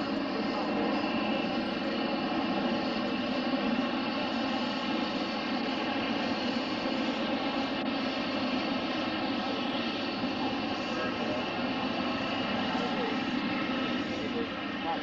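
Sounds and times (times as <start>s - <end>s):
aircraft engine running steadily: 0.0s - 15.0s.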